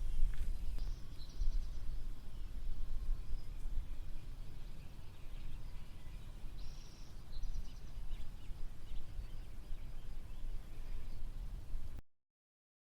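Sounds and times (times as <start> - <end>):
bird calls and chirps: 0.0 - 11.6.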